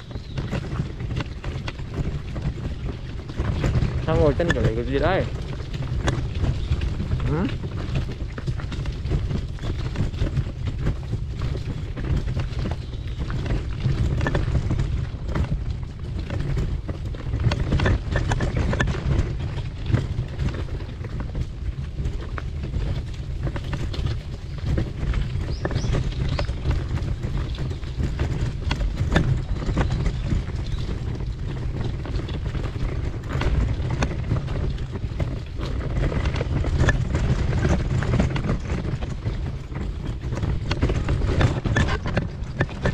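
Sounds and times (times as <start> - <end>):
footsteps on a trail: 0.0 - 42.9
wind rumble on microphone: 0.0 - 42.9.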